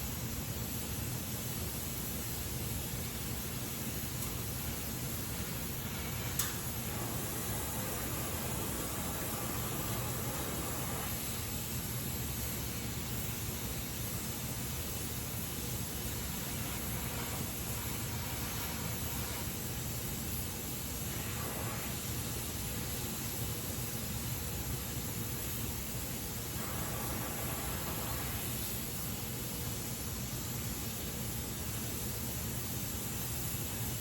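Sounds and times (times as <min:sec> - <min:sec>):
welding torch flame hissing: 0:00.0 - 0:34.0.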